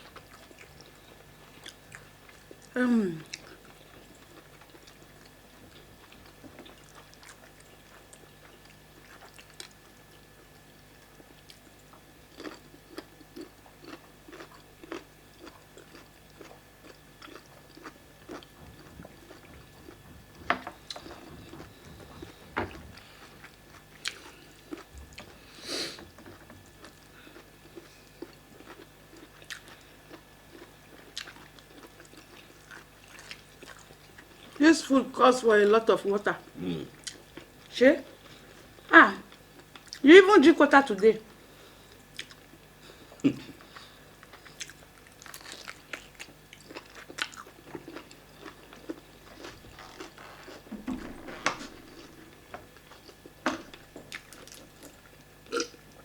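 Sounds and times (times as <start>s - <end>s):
people chewing food: 0.0s - 34.7s, 36.4s - 40.0s, 41.3s - 56.0s.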